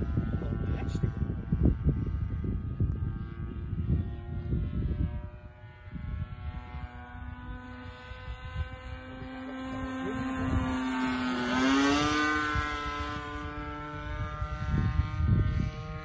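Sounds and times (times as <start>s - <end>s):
model plane engine buzzing: 0.0s - 16.0s.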